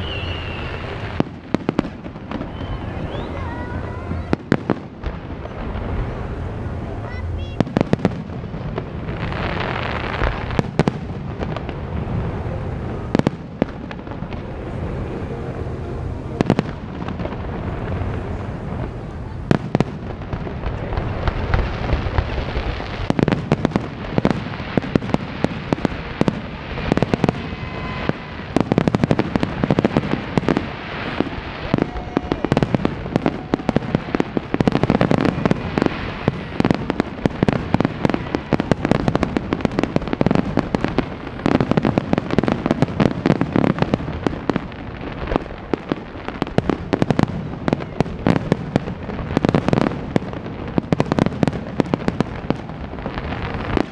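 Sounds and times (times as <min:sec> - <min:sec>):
firework crackles: 0:00.0 - 0:53.9.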